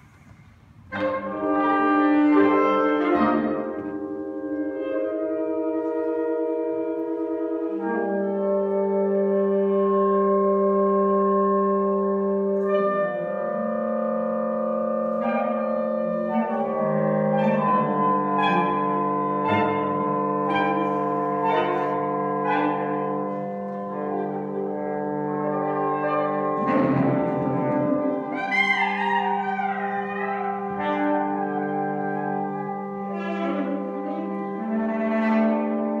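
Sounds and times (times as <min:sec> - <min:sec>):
saxophone ensemble playing chords: 0:00.8 - 0:36.0
low rough buzzing saxophone: 0:00.9 - 0:36.0.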